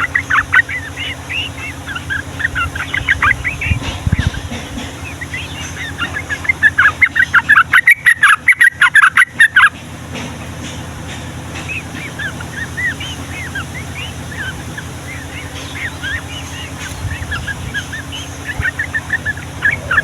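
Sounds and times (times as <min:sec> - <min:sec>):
bird chattering song: 0:00.0 - 0:20.0.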